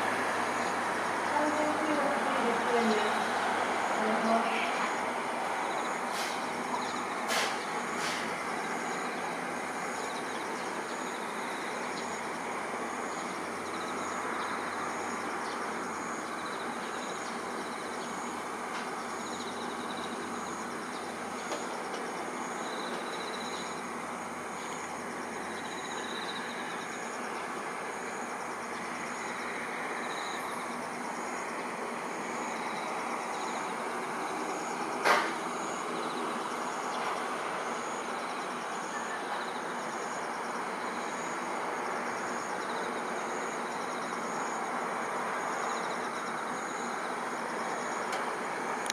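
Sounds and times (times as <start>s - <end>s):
distant city background noise: 0.0s - 48.9s
insect chirping: 0.0s - 48.9s.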